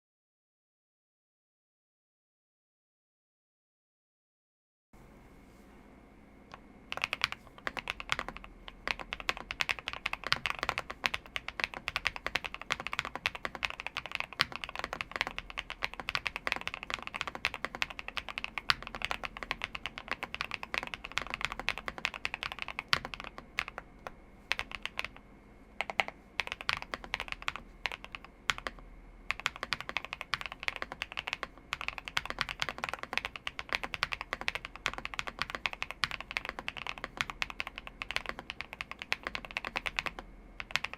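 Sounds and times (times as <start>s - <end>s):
mechanical keyboard typing: 6.9s - 25.2s, 25.8s - 40.9s.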